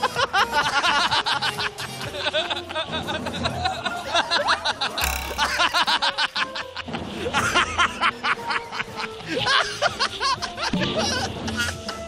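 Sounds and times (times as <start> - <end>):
background music: 0.0 - 12.0
people laughing: 0.0 - 12.0.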